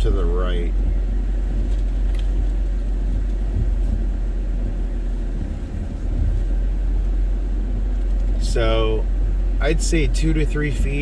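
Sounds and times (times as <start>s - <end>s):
low rumble inside a van: 0.0s - 11.0s.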